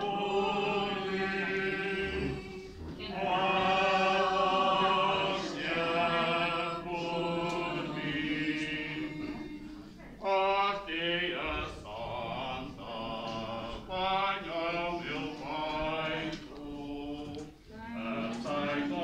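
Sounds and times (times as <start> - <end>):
voices singing a hymn: 0.0 - 19.0.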